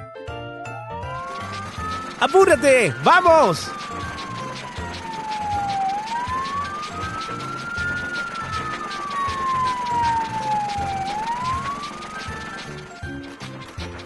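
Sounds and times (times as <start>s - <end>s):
background music with steady beat: 0.0s - 14.0s
fire truck siren wailing: 1.2s - 14.0s.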